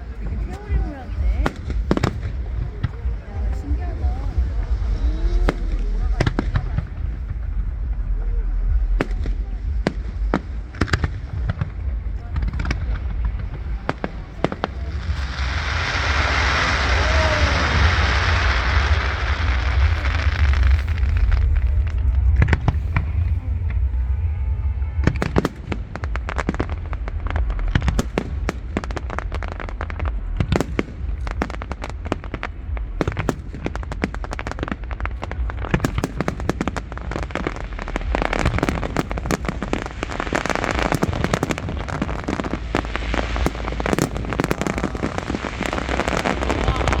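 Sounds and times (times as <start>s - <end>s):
fireworks banging and crackling: 0.0s - 47.0s
low rumble: 0.0s - 47.0s.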